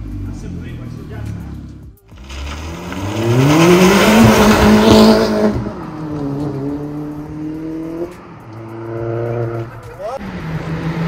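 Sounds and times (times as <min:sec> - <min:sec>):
car engine accelerating past: 0:01.1 - 0:11.0.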